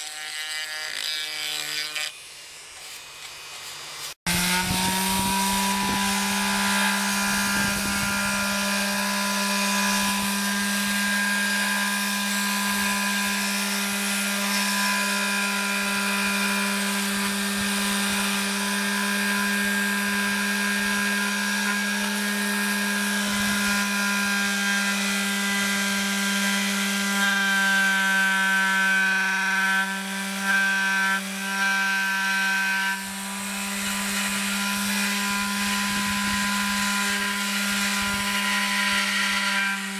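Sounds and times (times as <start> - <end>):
electric pad sander on wood: 0.0 - 39.9.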